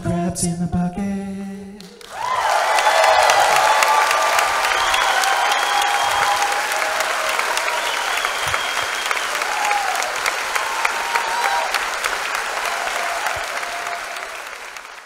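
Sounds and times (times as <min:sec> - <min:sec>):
audience applauding: 0:01.9 - 0:15.0.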